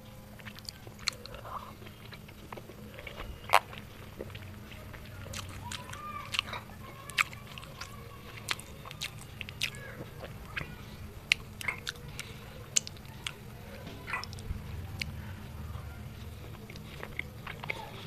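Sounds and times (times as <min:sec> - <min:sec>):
biting into boiled egg: 0:00.3 - 0:15.2
person chewing: 0:00.3 - 0:18.0
wet lip smacks: 0:00.4 - 0:15.2.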